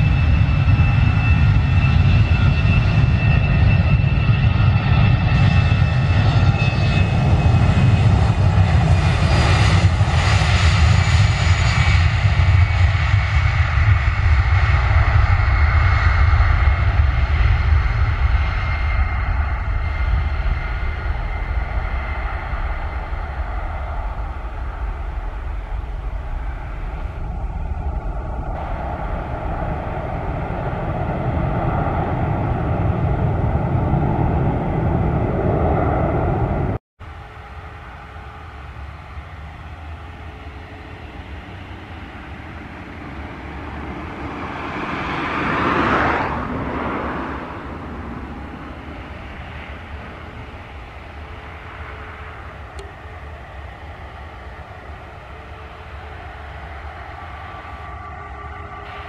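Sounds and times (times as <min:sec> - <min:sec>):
jet engine hum: 0:00.0 - 0:59.0
jet engines rumbling: 0:00.0 - 0:59.0.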